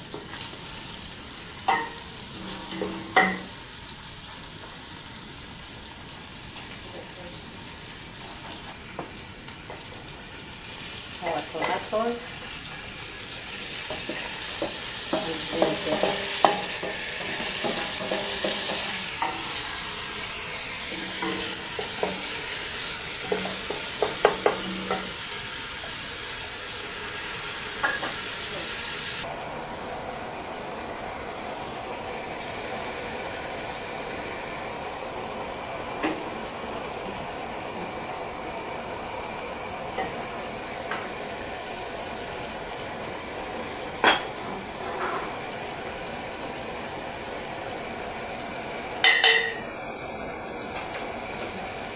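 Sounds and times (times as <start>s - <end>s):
vegetables sizzling in a pan: 0.0s - 51.9s.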